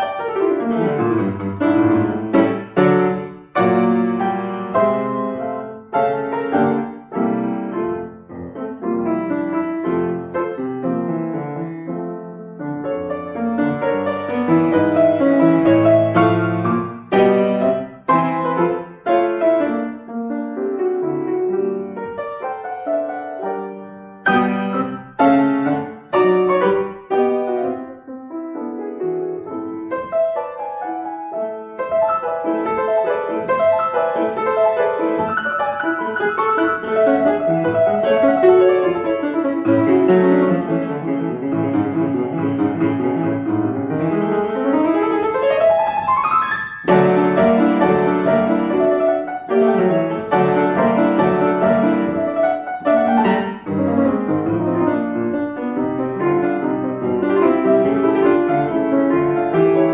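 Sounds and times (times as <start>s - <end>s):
classical piano piece: 0.0s - 59.9s.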